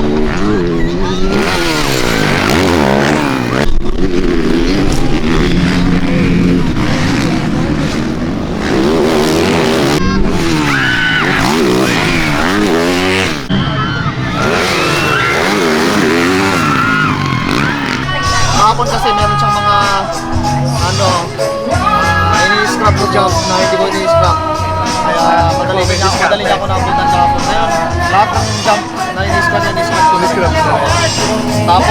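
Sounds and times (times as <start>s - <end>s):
motocross bike engines racing: 0.0s - 31.9s.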